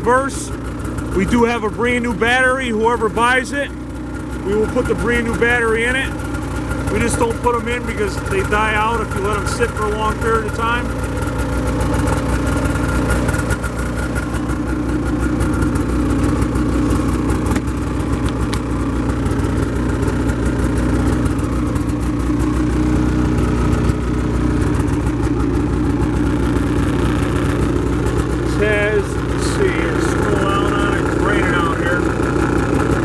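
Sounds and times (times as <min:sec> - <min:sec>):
snowmobile engine idling: 0:00.0 - 0:33.0.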